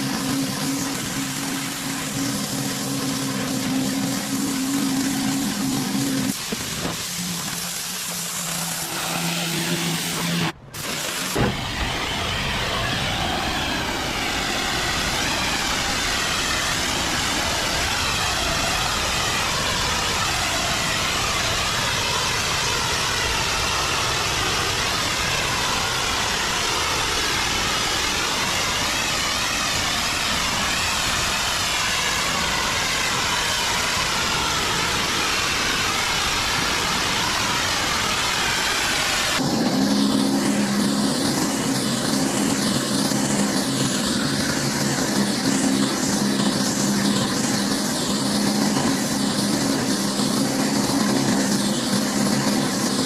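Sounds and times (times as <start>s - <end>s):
high-pressure water jet hissing: 0.0s - 53.0s
pressure washer engine: 0.0s - 53.0s.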